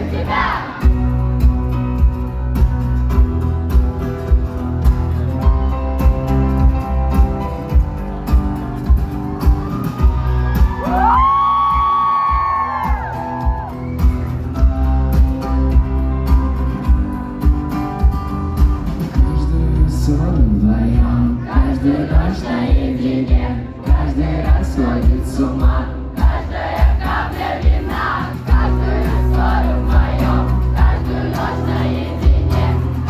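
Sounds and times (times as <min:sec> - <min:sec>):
live rock band playing: 0:00.0 - 0:20.3, 0:23.9 - 0:33.0.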